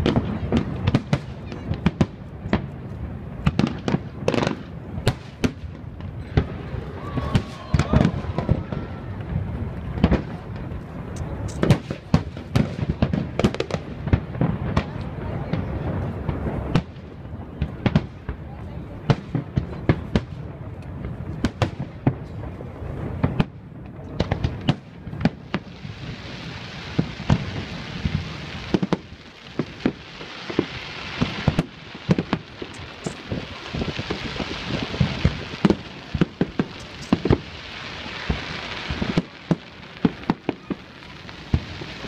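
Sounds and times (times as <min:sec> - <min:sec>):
firework bangs: 0:00.0 - 0:42.0
fireworks crackling hiss: 0:00.0 - 0:42.0.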